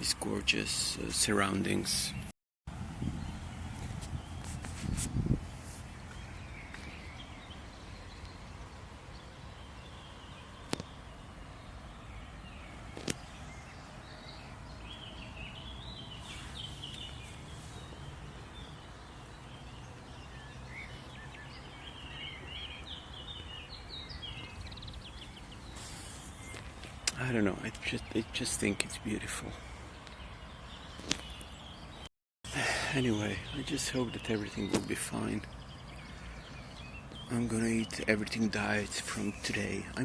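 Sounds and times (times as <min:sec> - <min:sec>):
small birds chirping: 0:00.0 - 0:02.3, 0:03.0 - 0:40.0.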